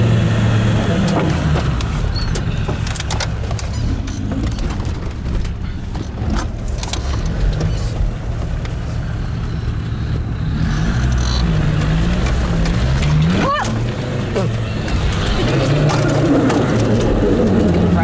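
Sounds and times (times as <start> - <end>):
off-road vehicle engine running: 0.0 - 18.0
knocks and rattles: 0.1 - 18.0.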